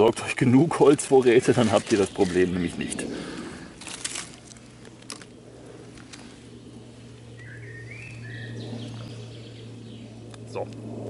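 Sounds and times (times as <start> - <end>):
birds chirping: 0.0 - 10.9
steady low hum: 0.0 - 11.0.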